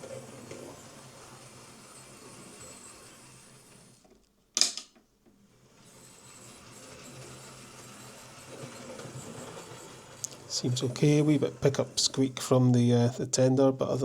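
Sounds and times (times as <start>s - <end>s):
model train motor whirring: 0.0s - 4.1s, 5.5s - 13.2s.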